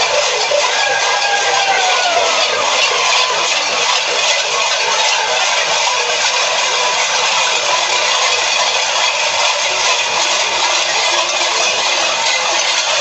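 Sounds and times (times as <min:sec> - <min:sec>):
cowbells clanging: 0:00.0 - 0:13.0.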